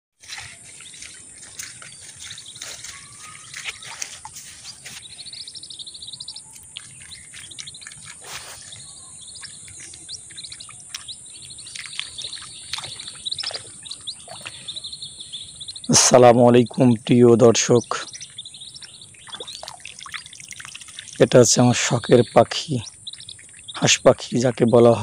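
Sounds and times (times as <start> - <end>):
birds chirping: 0.2 - 25.0.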